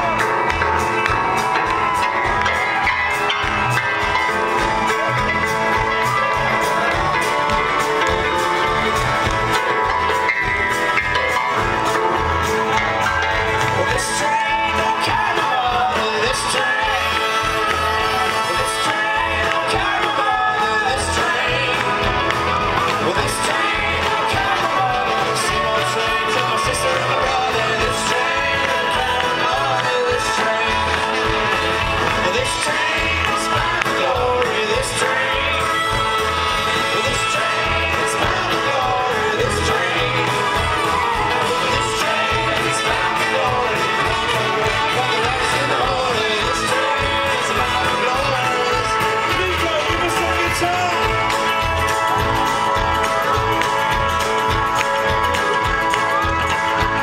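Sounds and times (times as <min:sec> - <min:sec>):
acoustic guitars strumming: 0:00.0 - 0:57.0
banjo: 0:00.0 - 0:57.0
folk-rock band playing: 0:00.0 - 0:57.0
person singing: 0:00.0 - 0:57.0.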